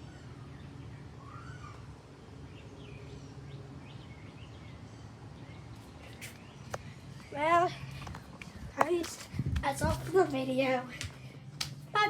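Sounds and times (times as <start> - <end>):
birds chirping: 0.0 - 12.0
low background hum: 0.0 - 12.0.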